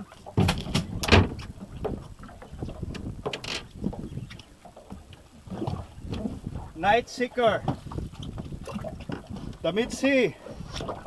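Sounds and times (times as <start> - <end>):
water slapping against hull: 0.0 - 11.0
wind buffeting microphone: 0.0 - 11.0.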